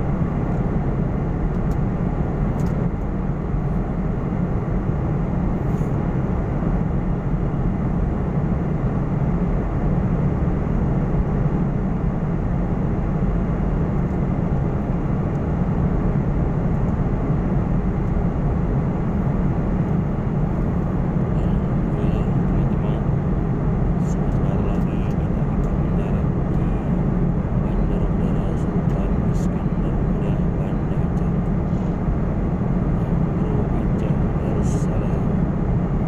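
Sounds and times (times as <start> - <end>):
jet engine cabin drone: 0.0 - 36.0.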